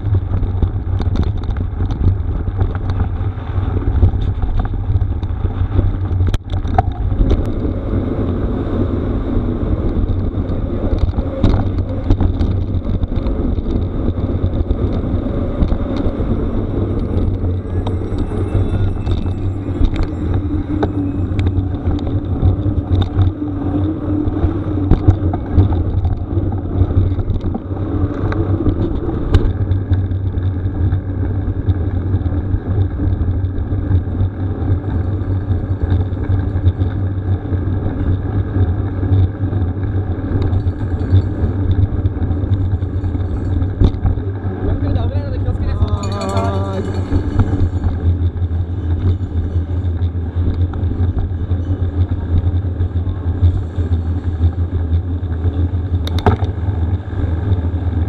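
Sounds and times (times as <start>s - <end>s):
bike rattling and knocking: 0.0s - 58.0s
wind rumbling on microphone: 0.0s - 58.0s.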